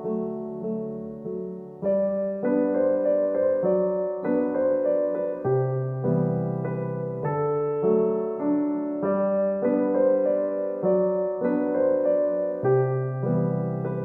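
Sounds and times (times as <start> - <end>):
soft solo piano music: 0.0 - 14.0.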